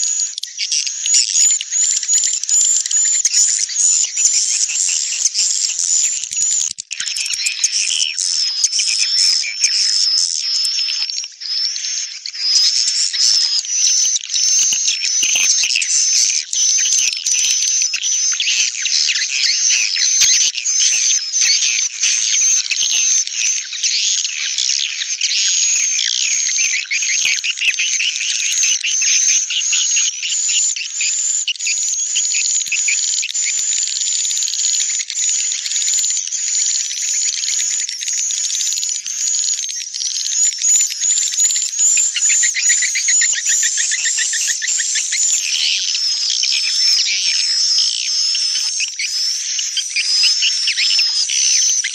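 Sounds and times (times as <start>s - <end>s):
high-pitched bird twittering: 0.0s - 51.9s.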